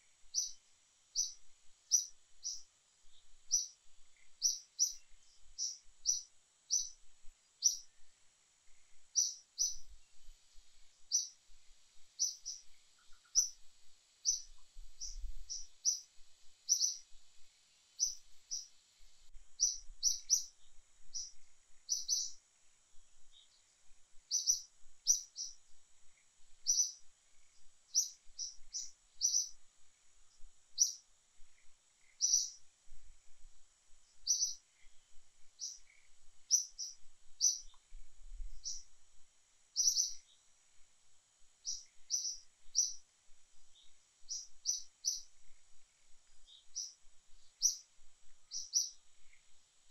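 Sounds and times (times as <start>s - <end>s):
faint high hiss: 0.0s - 49.9s
bird chirping: 0.2s - 22.4s, 23.2s - 32.7s, 34.1s - 38.9s, 39.7s - 40.5s, 41.6s - 49.9s.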